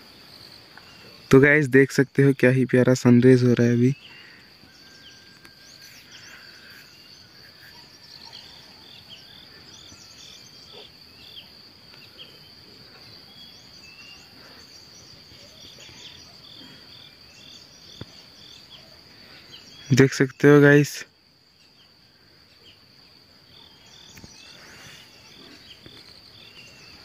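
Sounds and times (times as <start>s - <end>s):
birds chirping: 0.0s - 27.0s
high-pitched insect drone: 0.0s - 27.0s.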